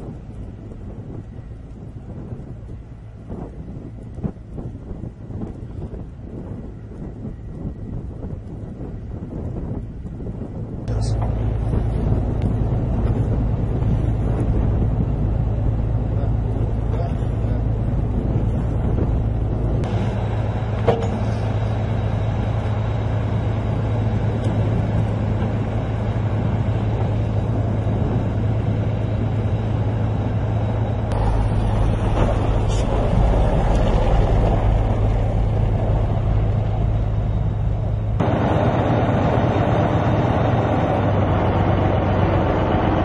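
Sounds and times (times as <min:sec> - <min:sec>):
large engine running: 0:00.0 - 0:43.0.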